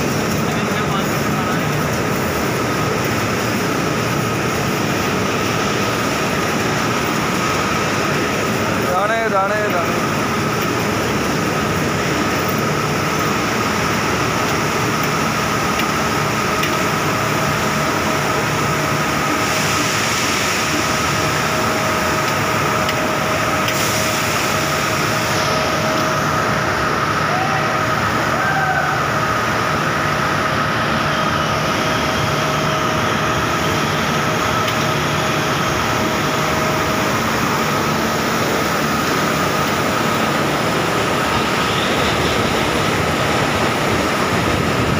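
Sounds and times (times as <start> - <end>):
high steady whine: 0.0 - 44.9.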